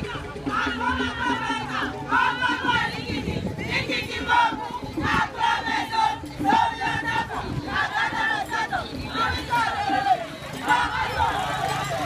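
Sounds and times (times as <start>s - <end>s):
murmur of street crowd: 0.0s - 12.0s
women singing together: 0.0s - 12.0s.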